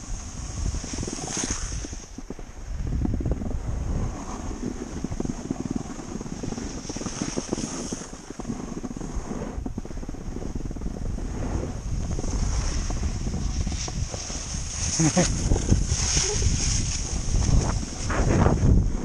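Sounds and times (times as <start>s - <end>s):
skis scraping over snow: 0.0s - 2.8s, 3.4s - 19.0s
wind buffeting microphone: 0.0s - 19.0s.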